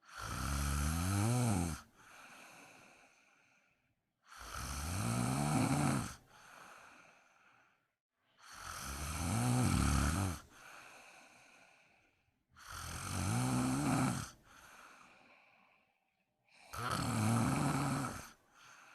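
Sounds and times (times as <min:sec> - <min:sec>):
woman snoring: 0:00.0 - 0:03.4, 0:04.2 - 0:07.0, 0:08.4 - 0:15.8, 0:16.5 - 0:18.9.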